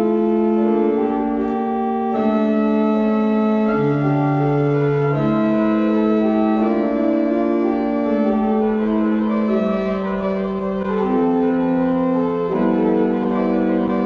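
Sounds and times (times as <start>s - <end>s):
church organ playing chords: 0.0s - 14.0s.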